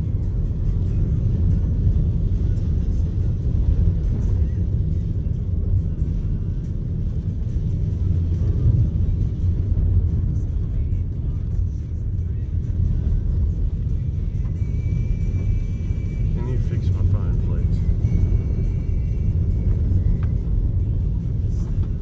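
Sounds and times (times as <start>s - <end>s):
car engine rumble: 0.0s - 22.0s
tyres on road: 0.0s - 22.0s.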